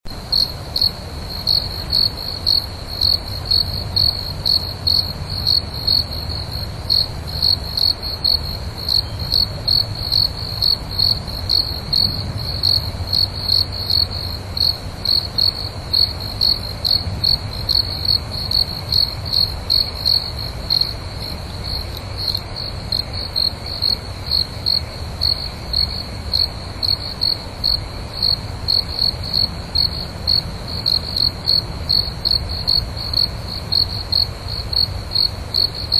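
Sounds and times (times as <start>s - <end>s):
crickets chirping: 0.1s - 35.9s.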